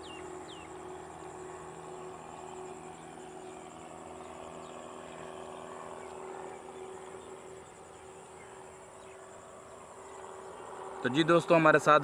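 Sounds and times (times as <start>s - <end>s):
insects trilling: 0.0s - 12.0s
low steady hum: 0.0s - 12.0s.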